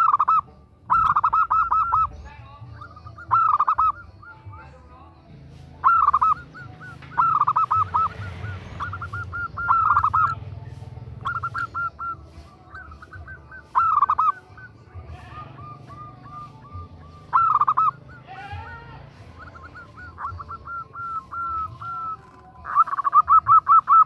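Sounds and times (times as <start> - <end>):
dove cooing: 0.0 - 4.7, 5.5 - 24.0.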